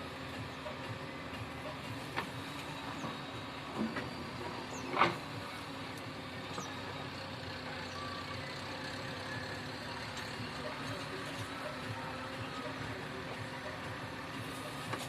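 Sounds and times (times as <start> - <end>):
diesel machinery engine running: 0.0 - 15.0.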